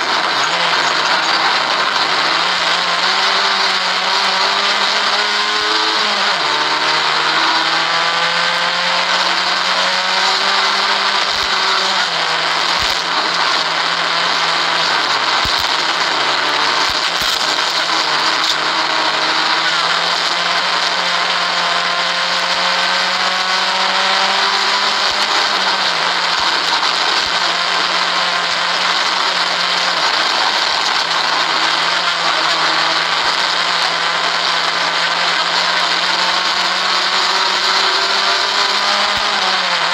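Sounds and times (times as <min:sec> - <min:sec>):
rally car engine running hard: 0:00.0 - 0:39.9.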